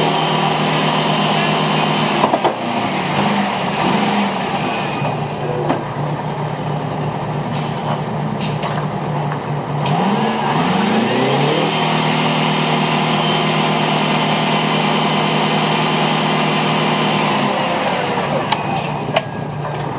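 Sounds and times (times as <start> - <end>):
engine revving: 0.0 - 19.6.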